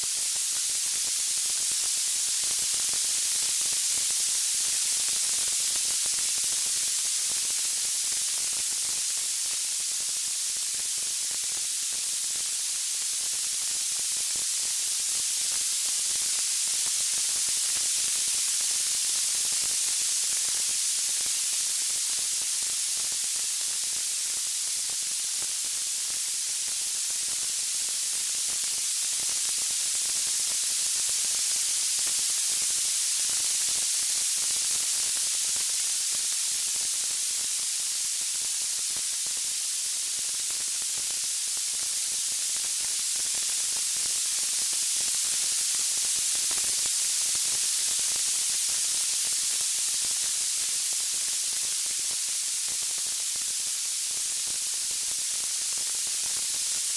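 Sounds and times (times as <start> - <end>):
high-pitched white-noise hiss: 0.0 - 56.9.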